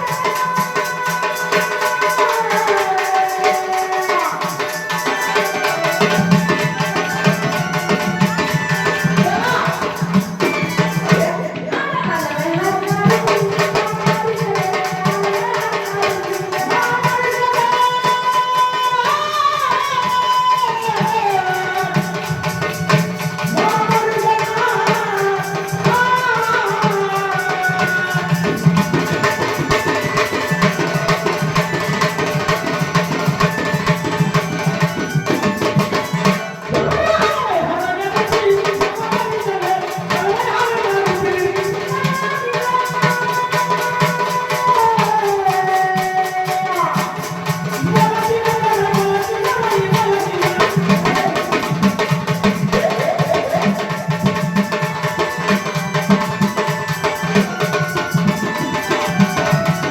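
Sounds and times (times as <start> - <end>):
rattling percussion: 0.0 - 59.9
tabla drumming: 0.0 - 59.9
woman singing devotional song: 0.0 - 59.9.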